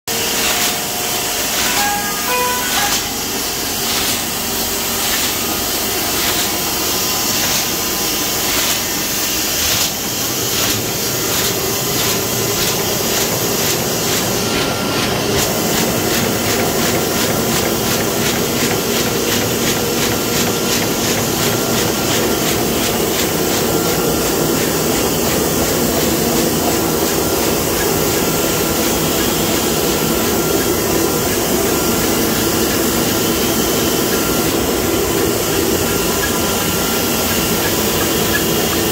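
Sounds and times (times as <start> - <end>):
printing press clattering: 0.2 - 38.9.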